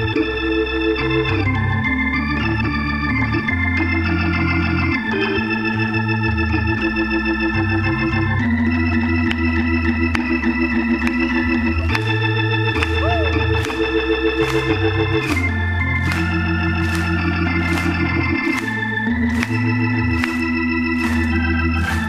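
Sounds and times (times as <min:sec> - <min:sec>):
bass line: 0:00.0 - 0:22.0
electric organ chords: 0:00.0 - 0:22.0.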